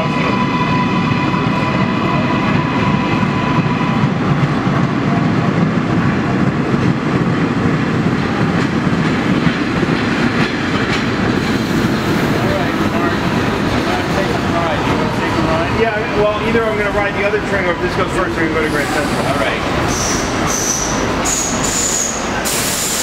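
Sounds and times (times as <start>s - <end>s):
subway train wheels rumbling: 0.0s - 23.0s.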